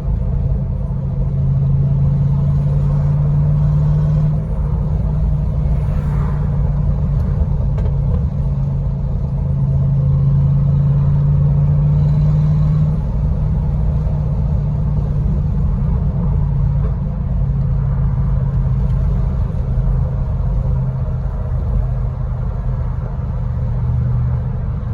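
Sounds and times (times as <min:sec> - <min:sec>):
engine exhaust droning: 0:00.0 - 0:24.9.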